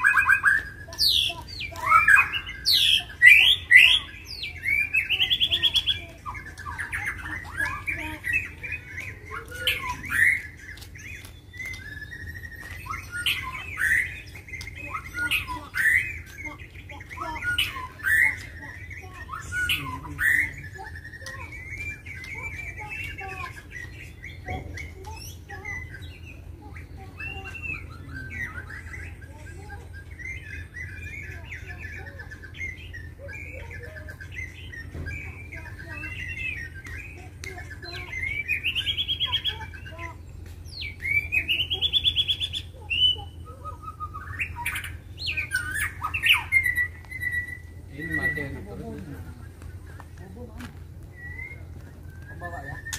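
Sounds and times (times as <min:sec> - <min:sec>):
bird singing whistled phrases: 0:00.0 - 0:52.9.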